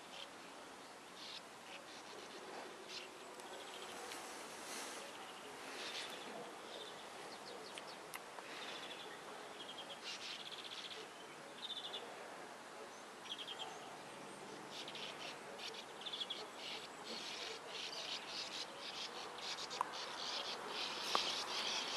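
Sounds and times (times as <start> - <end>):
sand martins twittering: 1.2 - 12.1, 13.2 - 21.9.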